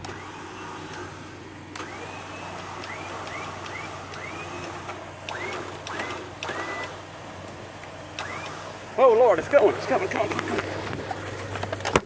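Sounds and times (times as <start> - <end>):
electric winch motor whining: 0.0 - 11.3.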